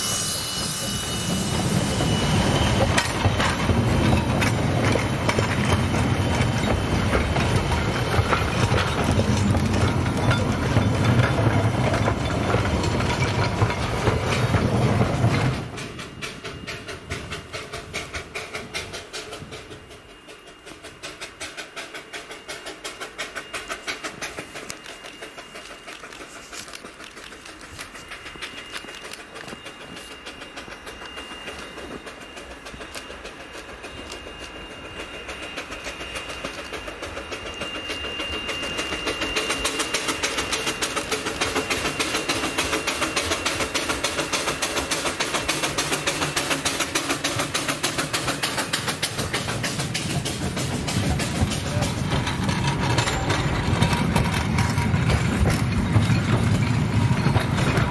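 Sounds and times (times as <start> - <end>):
steam locomotive exhaust beating: 0.0 - 57.9.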